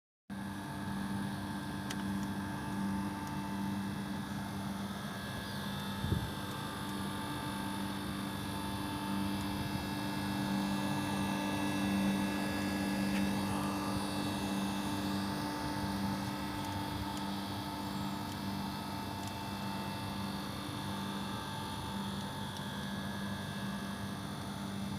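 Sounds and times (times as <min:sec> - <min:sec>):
steady machine hum: 0:00.3 - 0:24.9.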